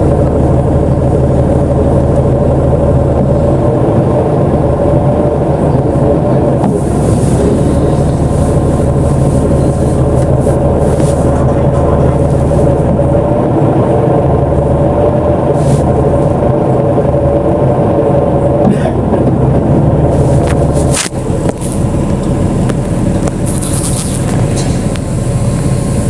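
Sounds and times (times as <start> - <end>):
bus engine and road rumble: 0.0 - 26.0
steady whine: 0.0 - 26.0.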